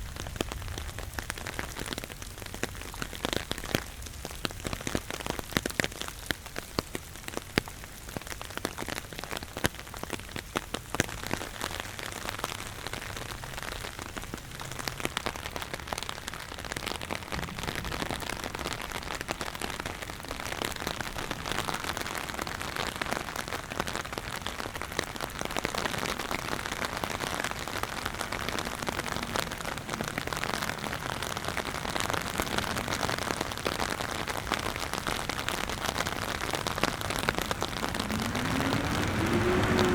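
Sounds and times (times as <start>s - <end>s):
rain falling: 0.0s - 39.9s
raindrops striking in sharp clicks: 0.0s - 39.9s.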